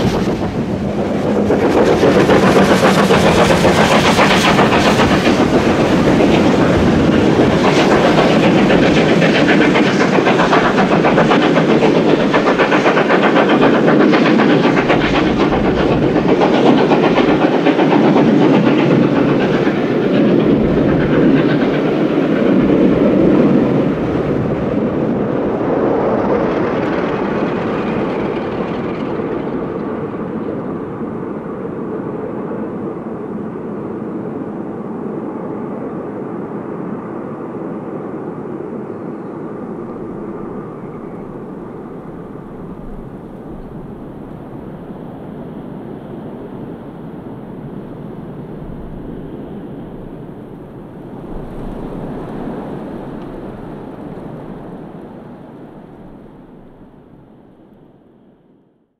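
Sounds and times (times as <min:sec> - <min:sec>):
steam locomotive exhaust beat: 0:00.0 - 0:31.2, 0:39.5 - 0:56.7.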